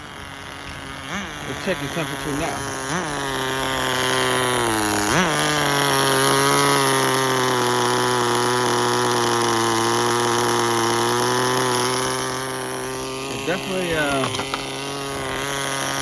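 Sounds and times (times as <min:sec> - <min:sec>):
model car engine idling: 0:00.0 - 0:16.0.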